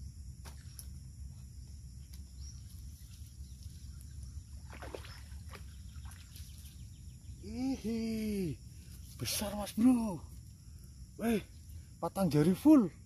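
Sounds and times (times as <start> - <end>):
high buzz of insects: 0.0 - 13.0.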